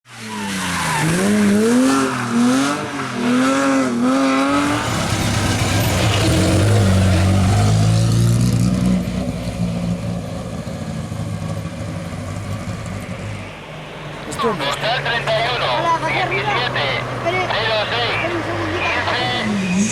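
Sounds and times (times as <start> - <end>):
rally car engine revving: 0.1 - 19.9.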